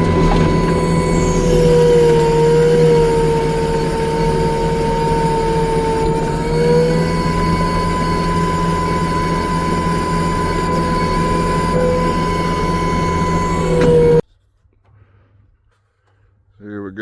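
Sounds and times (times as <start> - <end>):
engine drone: 0.0 - 14.2
high whine of mulching head: 0.0 - 14.2.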